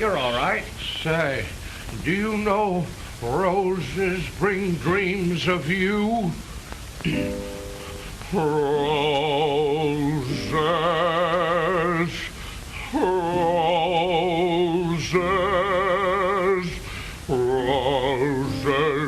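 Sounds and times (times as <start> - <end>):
man singing with vibrato: 0.0 - 19.0.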